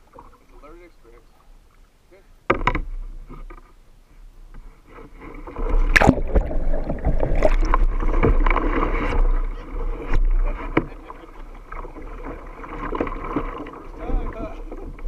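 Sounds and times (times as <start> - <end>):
water splashing around kayak: 0.0 - 15.0.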